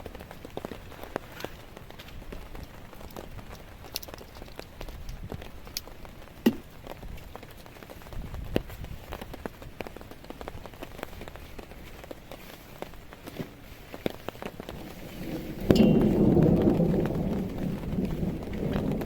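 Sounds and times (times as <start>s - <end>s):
raindrops dripping: 0.0s - 19.0s.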